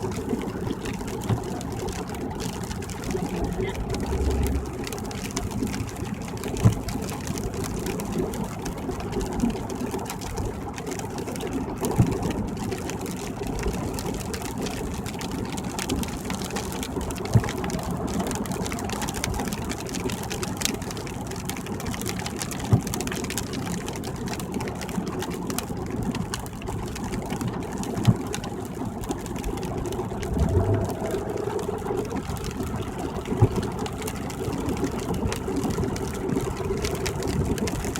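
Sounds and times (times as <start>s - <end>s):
car tyres and engine rumble: 0.0s - 37.9s.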